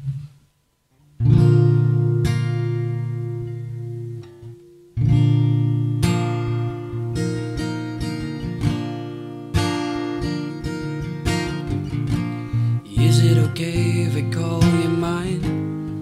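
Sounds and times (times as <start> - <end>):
acoustic guitar strumming: 1.0 - 16.0.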